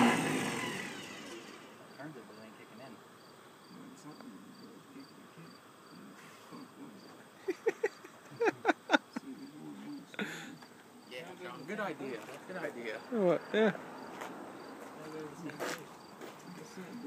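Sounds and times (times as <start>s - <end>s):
faint insect chirping: 0.8s - 17.0s.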